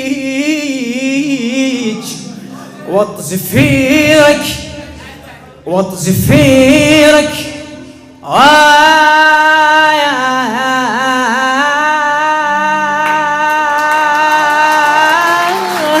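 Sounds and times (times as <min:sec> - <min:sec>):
person singing a long note: 0:02.8 - 0:16.0.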